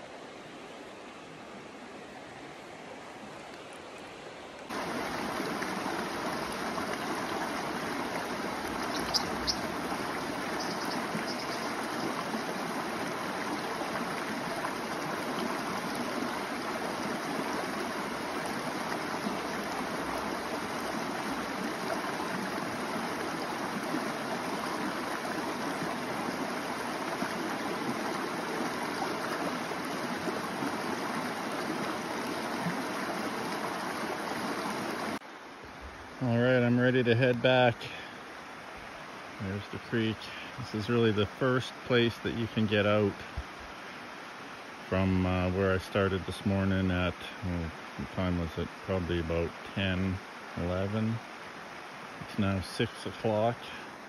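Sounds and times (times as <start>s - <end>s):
creek water rushing over rocks: 0.0s - 54.0s.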